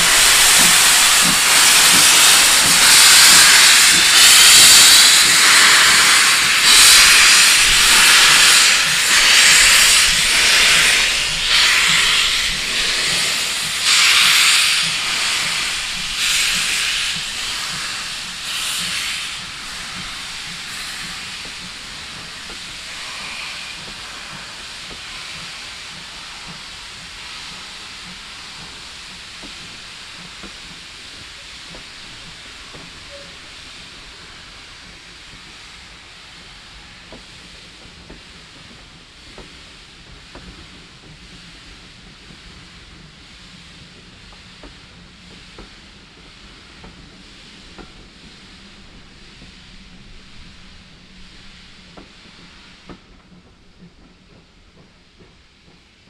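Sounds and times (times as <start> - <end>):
steam locomotive blasts of steam: 0.0 - 56.0.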